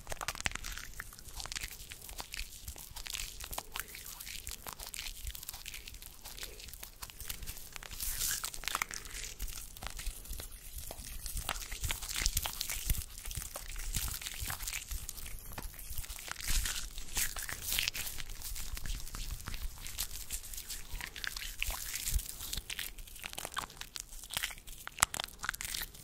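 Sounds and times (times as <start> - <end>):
hands rustling: 0.0 - 25.2
small crackles and clicks: 0.0 - 26.0.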